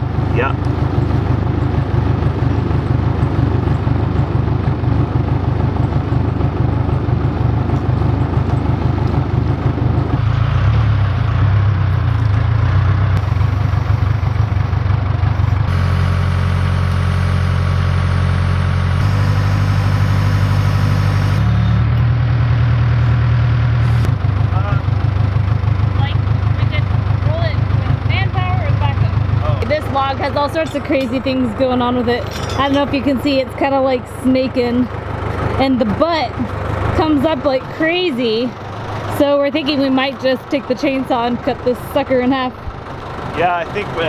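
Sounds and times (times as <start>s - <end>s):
backhoe diesel engine running: 0.0s - 44.0s.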